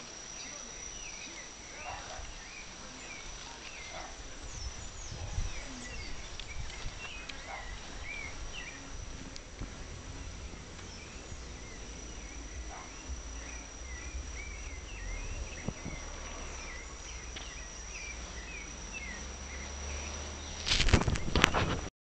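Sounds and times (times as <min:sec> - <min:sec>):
insects droning: 0:00.0 - 0:21.9
bird chirping: 0:00.3 - 0:21.4.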